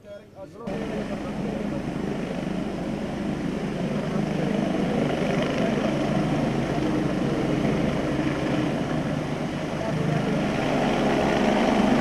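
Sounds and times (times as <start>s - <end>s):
helicopter engine running: 0.7s - 12.0s
helicopter rotor chopping: 0.7s - 12.0s.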